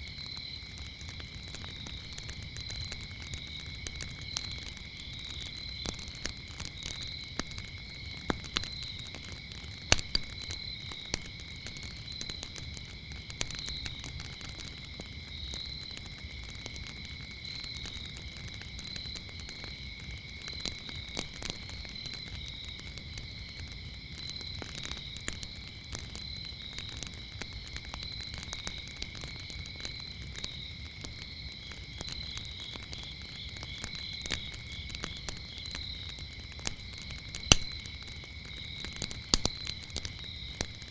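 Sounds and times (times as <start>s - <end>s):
crickets chirping: 0.0s - 40.9s
wood fire crackling and popping: 0.0s - 40.9s.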